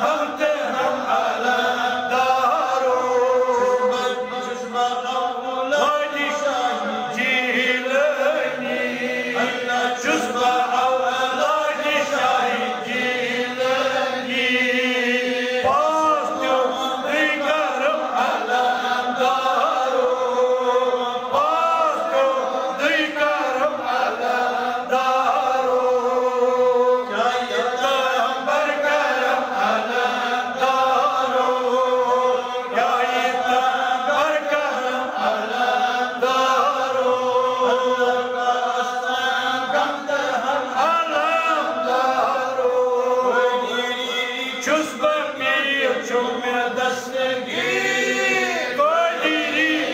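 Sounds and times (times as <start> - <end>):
person chanting slow melody: 0.0 - 49.9.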